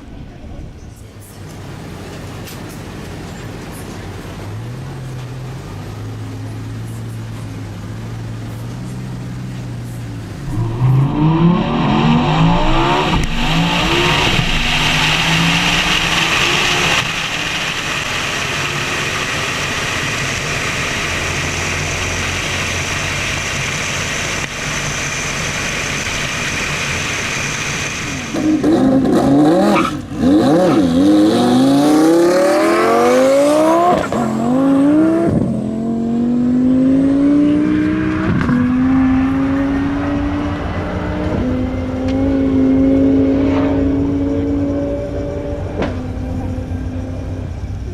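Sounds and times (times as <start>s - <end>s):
sports car engine idling and launching: 0.1s - 47.9s.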